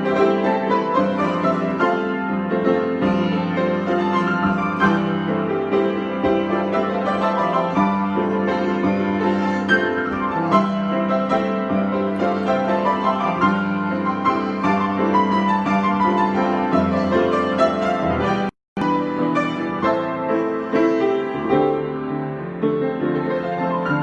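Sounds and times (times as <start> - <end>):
piano improvisation: 0.0 - 24.0.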